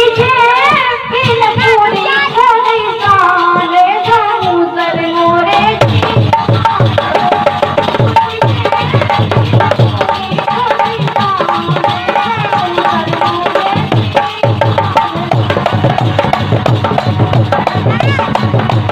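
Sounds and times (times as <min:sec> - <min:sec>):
hand drum beating fast rhythm: 0:00.1 - 0:18.9.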